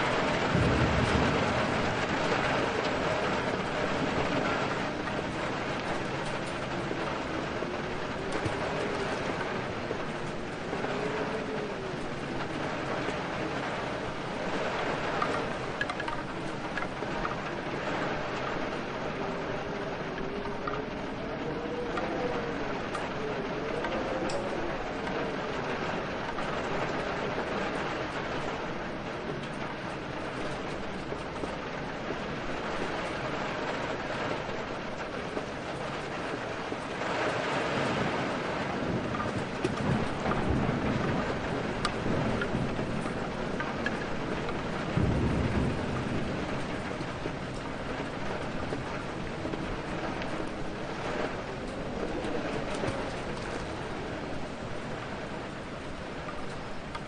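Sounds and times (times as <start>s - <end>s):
steady rain: 0.0s - 57.0s
thunder rolling: 0.0s - 57.0s
wind: 0.0s - 57.0s.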